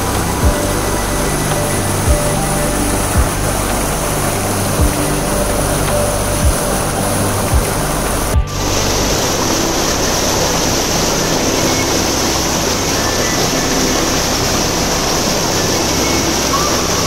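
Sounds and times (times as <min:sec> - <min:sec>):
stream rushing over boulders: 0:00.0 - 0:17.0.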